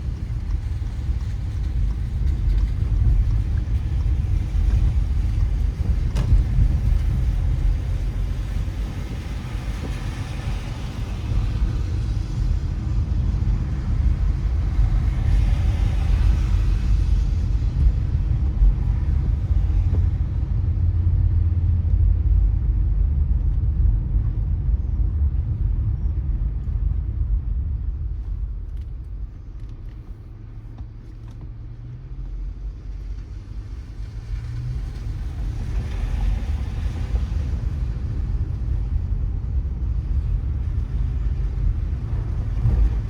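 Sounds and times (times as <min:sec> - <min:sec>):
road rumble: 0:00.0 - 0:43.0.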